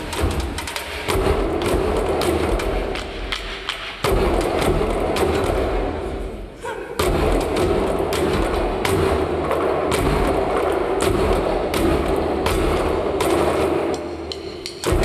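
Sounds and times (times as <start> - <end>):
plastic bin drummed with sticks: 0.0 - 6.4, 7.0 - 15.0.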